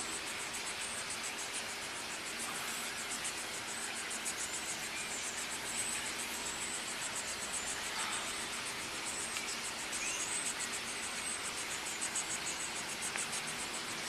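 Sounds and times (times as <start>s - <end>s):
insects chirping: 0.0s - 14.0s
steady background hiss: 0.0s - 14.0s.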